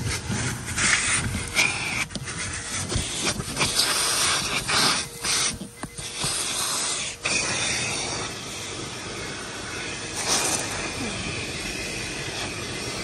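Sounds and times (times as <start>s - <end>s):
vacuum cleaner on carpet: 0.0s - 13.0s.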